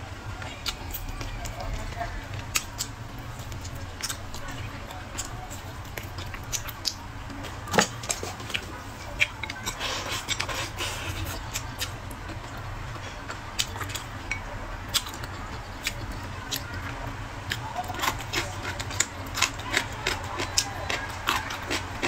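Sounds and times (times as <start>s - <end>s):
wet chewing and lip smacks: 0.4s - 22.0s
chopsticks clicking against bowl: 2.4s - 12.6s, 13.3s - 22.0s.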